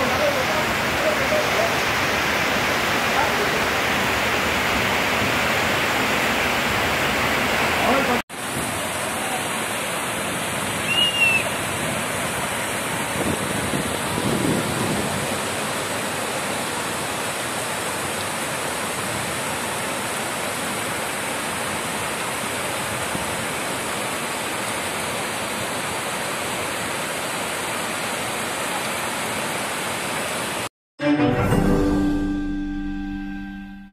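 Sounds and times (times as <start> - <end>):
floodwater rushing down street: 0.0 - 30.7
heavy rain: 0.0 - 30.7.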